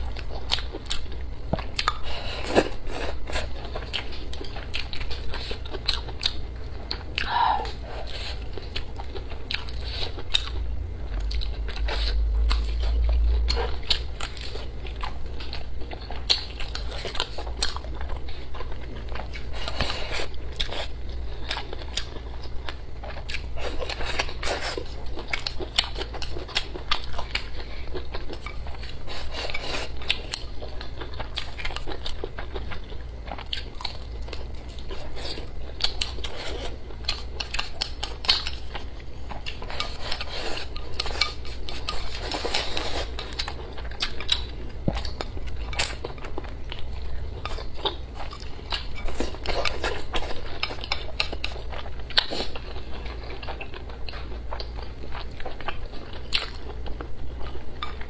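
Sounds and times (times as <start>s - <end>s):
low hum: 0.0s - 51.0s
wet chewing sounds: 0.0s - 58.0s.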